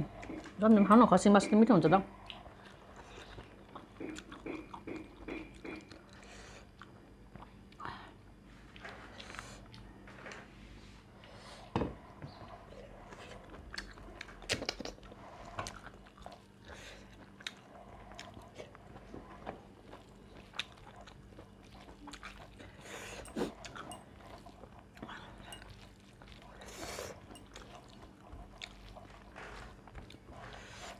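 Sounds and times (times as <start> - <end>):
person chewing food: 0.0 - 0.7, 2.0 - 10.5, 11.2 - 30.9.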